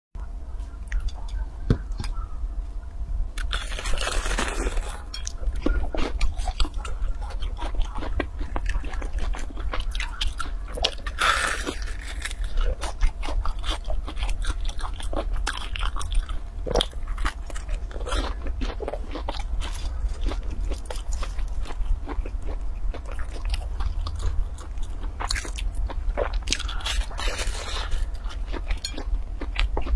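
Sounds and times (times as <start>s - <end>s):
steady low hum: 0.2s - 29.9s
crisp fried cake crunching: 3.4s - 29.9s.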